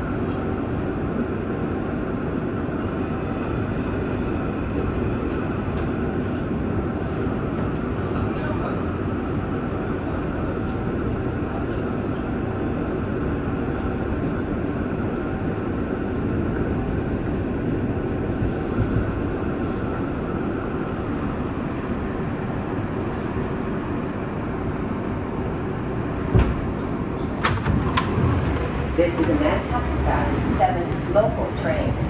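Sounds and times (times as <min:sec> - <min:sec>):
subway car rumble and hum: 0:00.0 - 0:32.0.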